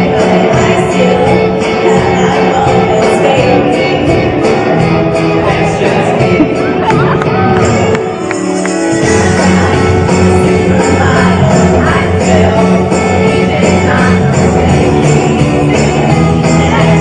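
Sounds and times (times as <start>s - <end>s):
live band playing amplified music: 0.0s - 17.0s.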